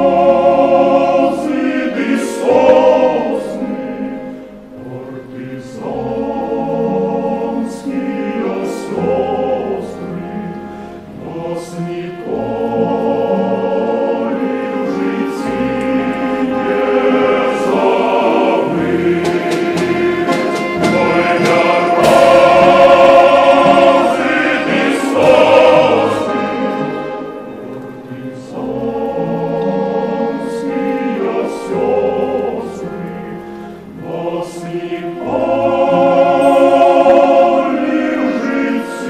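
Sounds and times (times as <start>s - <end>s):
choir singing sustained chords: 0.0s - 39.0s.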